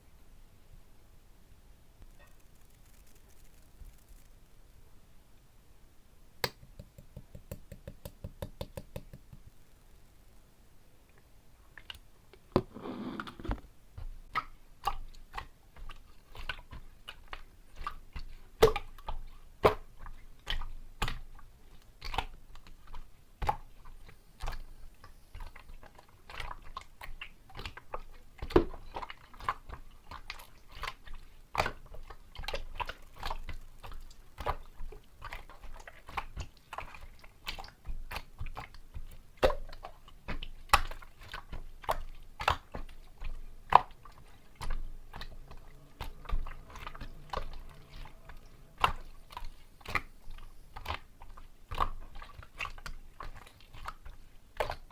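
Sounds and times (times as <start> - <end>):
slime squelch: 2.0 - 4.5, 11.7 - 54.9.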